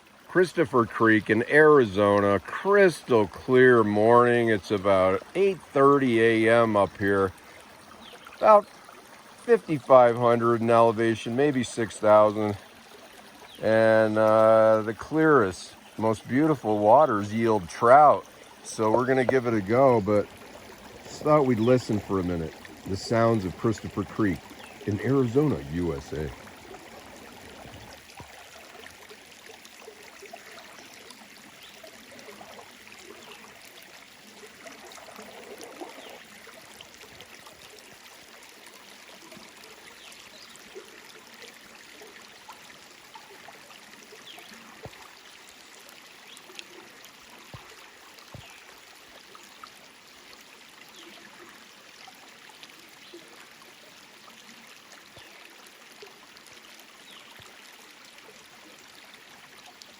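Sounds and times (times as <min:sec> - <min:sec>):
creek flowing over rocks: 0:00.0 - 0:59.9.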